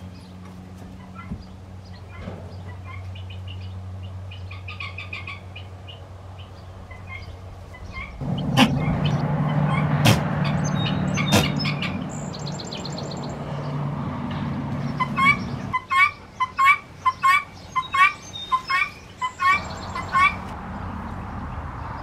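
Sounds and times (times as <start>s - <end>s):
low engine hum: 0.0s - 17.8s, 19.2s - 22.0s
small birds chirping: 0.0s - 22.0s.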